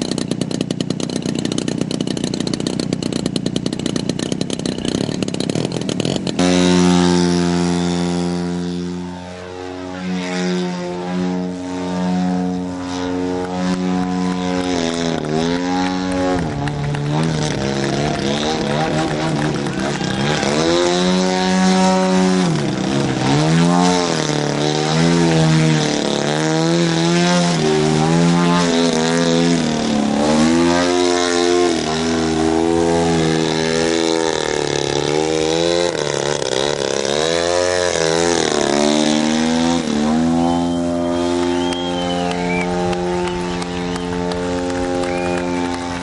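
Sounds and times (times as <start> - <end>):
model airplane engine: 0.0 - 46.0.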